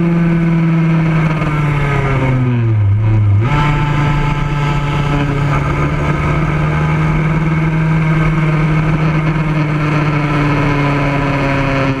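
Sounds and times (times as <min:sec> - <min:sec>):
racing kart engine: 0:00.0 - 0:12.0.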